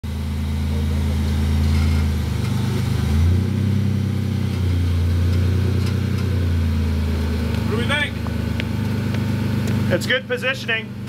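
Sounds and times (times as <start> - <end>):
buggy engine running at low revs: 0.0 - 11.0.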